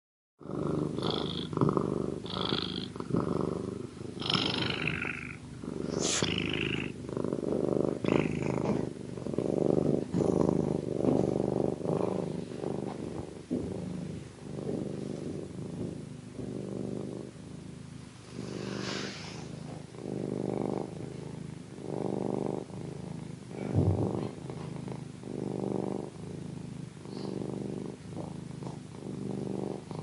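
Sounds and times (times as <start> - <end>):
cat purring: 0.4 - 30.0.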